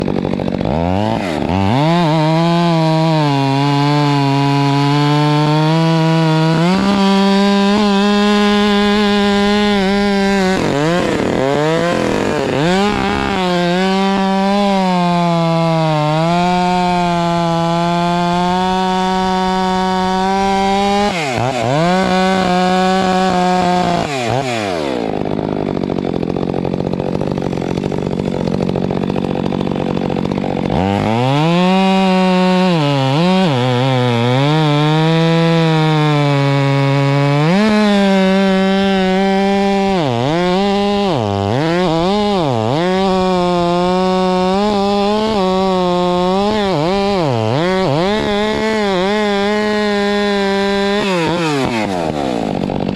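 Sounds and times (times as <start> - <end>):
chainsaw cutting log: 0.0 - 52.9.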